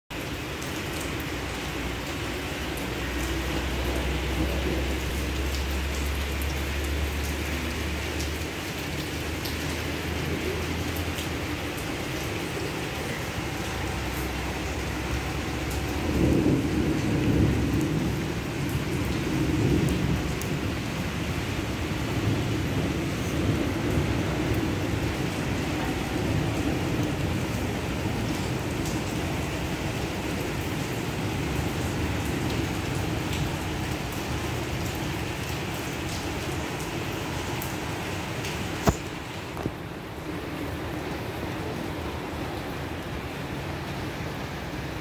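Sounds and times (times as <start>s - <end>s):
heavy rain falling: 0.1s - 45.0s.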